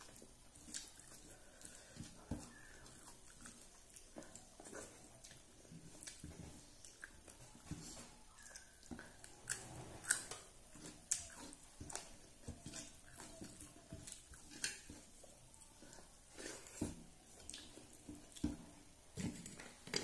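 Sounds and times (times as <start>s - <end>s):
person chewing: 0.0s - 20.0s.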